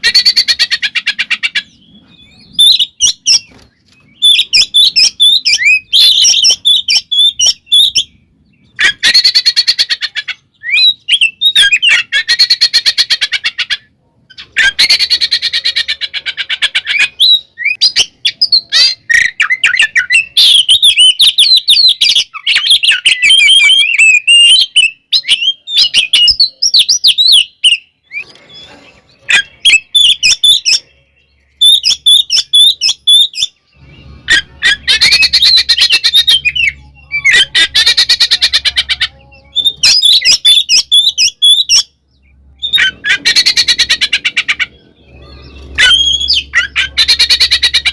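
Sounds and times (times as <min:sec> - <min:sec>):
magpie-robin singing: 0:00.0 - 0:47.9.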